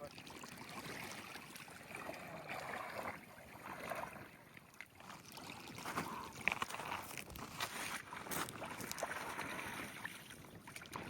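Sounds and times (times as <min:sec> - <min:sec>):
seawater splashing and lapping: 0:00.0 - 0:11.0.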